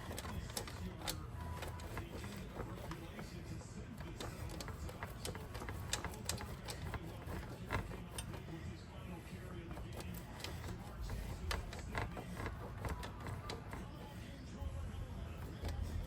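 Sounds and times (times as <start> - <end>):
cheese grating on grater: 0.0 - 14.4, 15.2 - 16.0.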